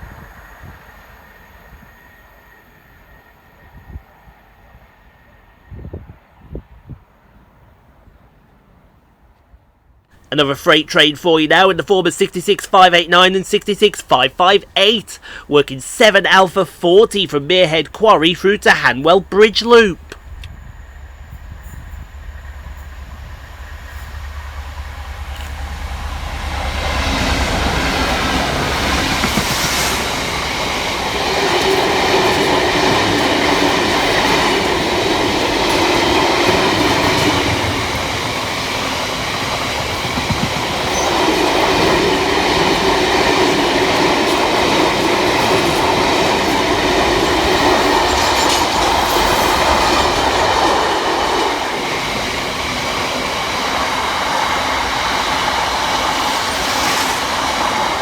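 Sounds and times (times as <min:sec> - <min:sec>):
freight train passing: 0:00.0 - 0:58.0
locomotive engine rumble: 0:10.2 - 0:58.0.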